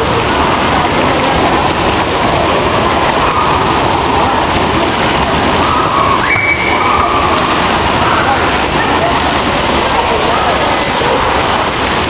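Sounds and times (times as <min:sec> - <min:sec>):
bubbling spa: 0:00.0 - 0:12.0
fountain jets splashing: 0:00.0 - 0:12.0.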